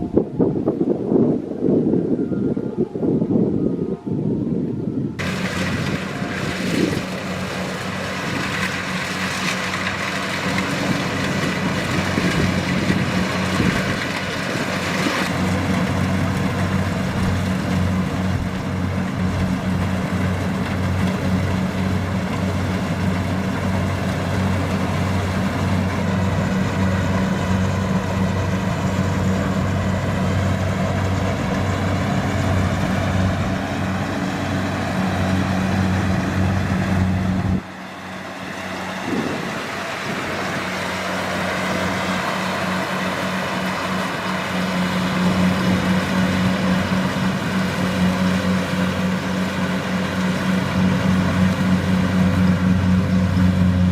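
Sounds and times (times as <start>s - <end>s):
combine harvester engine droning: 0.0s - 53.9s.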